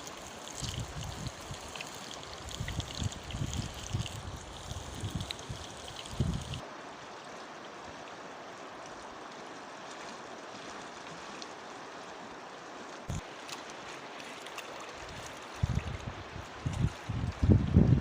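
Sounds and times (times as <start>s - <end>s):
river flowing: 0.0s - 17.6s.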